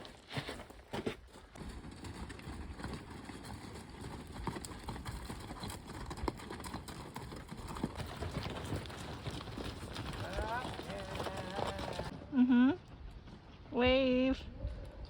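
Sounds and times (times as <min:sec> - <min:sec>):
footsteps on rocky dirt trail: 0:00.0 - 0:12.2.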